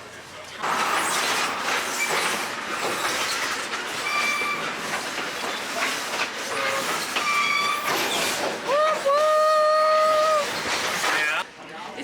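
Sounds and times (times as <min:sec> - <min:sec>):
train cars rumbling and rattling: 0:00.0 - 0:11.6
rail clacks: 0:00.6 - 0:11.4.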